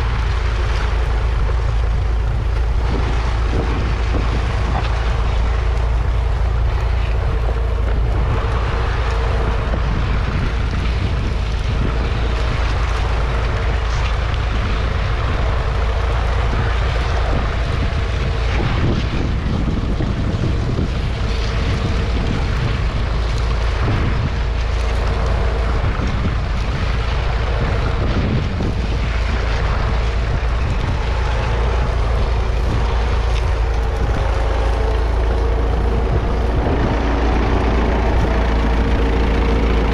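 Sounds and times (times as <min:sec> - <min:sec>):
tractor engine rumbling under load: 0:00.0 - 0:39.9.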